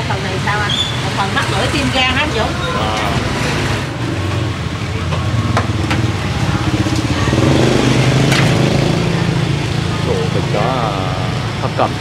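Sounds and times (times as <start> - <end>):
background chatter: 0.0 - 12.0.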